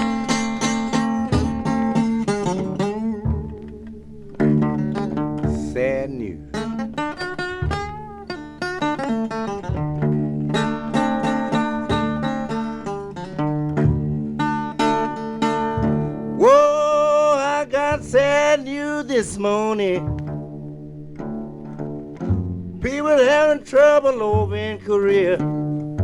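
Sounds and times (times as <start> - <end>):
picked guitar and string instruments: 0.0 - 26.0.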